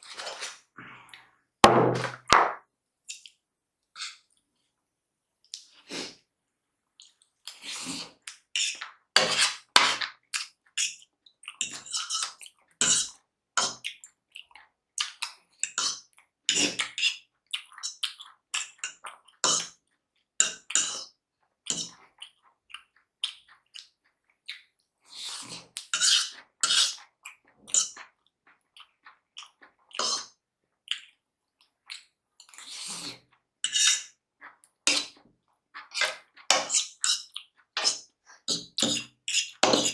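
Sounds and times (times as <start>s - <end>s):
slurping and chewing noodles: 7.0s - 21.2s, 21.8s - 39.9s.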